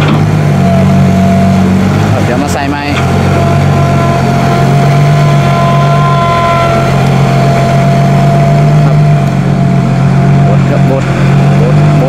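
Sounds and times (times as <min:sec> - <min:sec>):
diesel engine under load: 0:00.0 - 0:12.0
high whine: 0:00.0 - 0:12.0.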